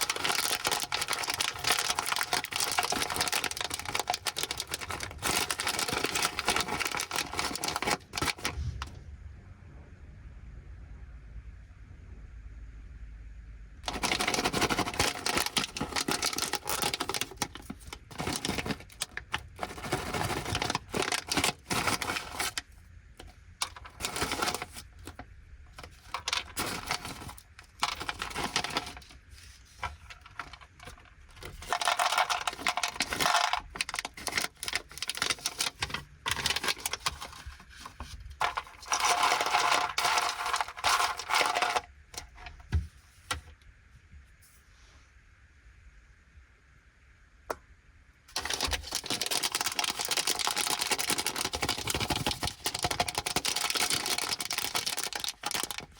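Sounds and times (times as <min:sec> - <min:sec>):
plastic snack bags crinkling: 0:00.0 - 0:08.9, 0:13.8 - 0:42.6, 0:48.3 - 0:55.9.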